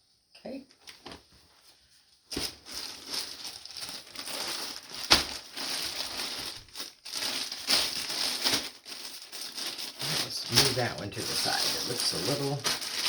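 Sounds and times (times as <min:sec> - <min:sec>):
plastic bag crinkling: 0:02.3 - 0:13.0.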